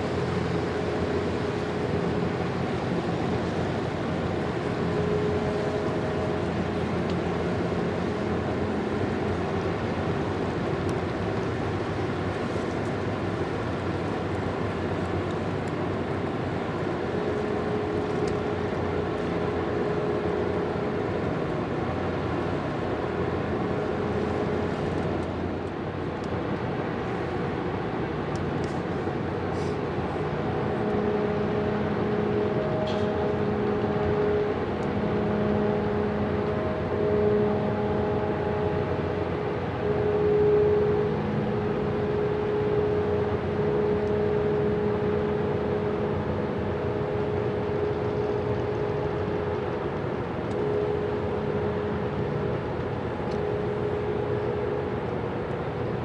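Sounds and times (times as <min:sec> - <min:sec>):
hum: 0:00.0 - 0:56.0
ship engines droning: 0:00.0 - 0:56.0.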